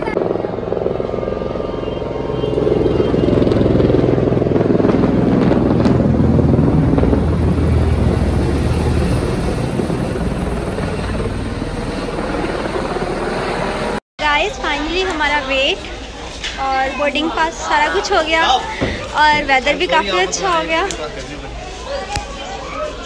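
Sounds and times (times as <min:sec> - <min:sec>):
helicopter rotor chopping: 0:00.0 - 0:22.6.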